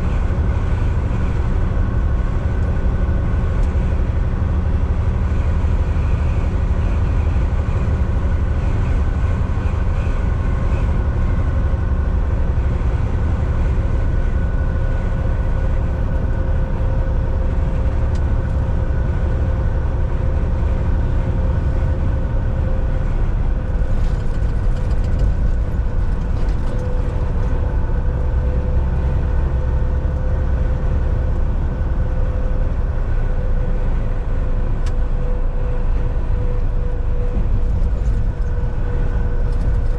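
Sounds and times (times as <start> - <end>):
constant hum: 0.0 - 39.9
road rumble: 0.0 - 39.9
truck engine drone: 0.0 - 39.9.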